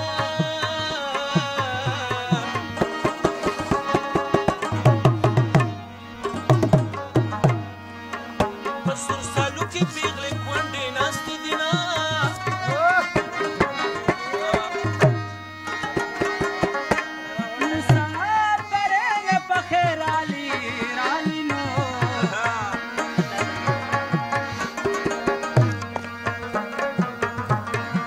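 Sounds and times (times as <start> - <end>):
harmonium: 0.0 - 28.0
tabla drumming: 0.0 - 28.0.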